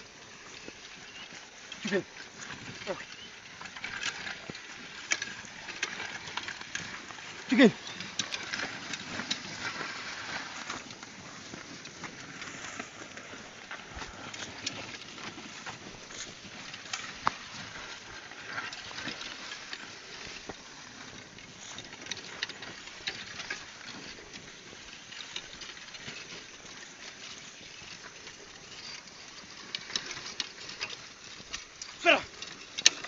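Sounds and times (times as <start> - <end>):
soil crackles and patter: 0.0 - 33.0.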